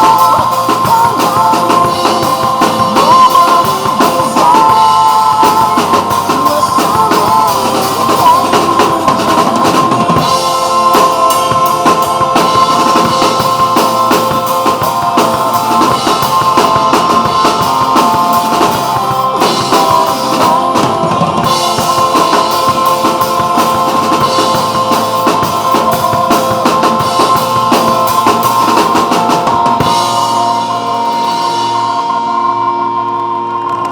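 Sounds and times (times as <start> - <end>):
drum kit playing: 0.0 - 33.9
pop ballad backing track: 0.0 - 33.9.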